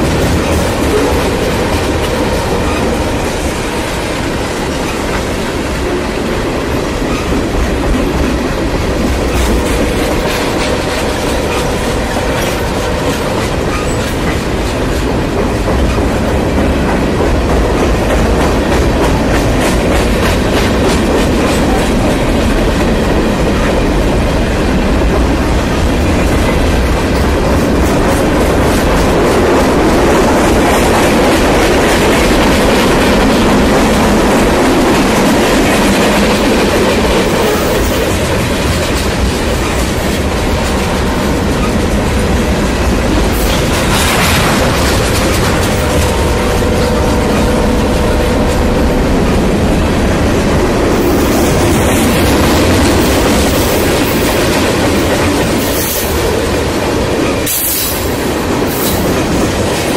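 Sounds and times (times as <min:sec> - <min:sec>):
clickety-clack of wheels: 0:00.0 - 0:49.4, 0:50.9 - 0:59.9
train wheels rumbling on rail: 0:00.0 - 0:59.9.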